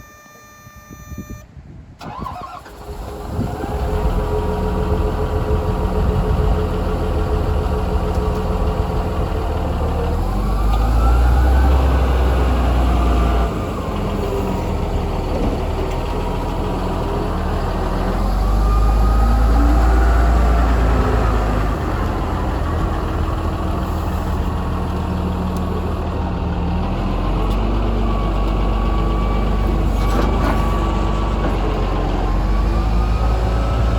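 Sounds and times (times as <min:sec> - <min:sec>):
tractor diesel engine revving: 0:02.0 - 0:33.9.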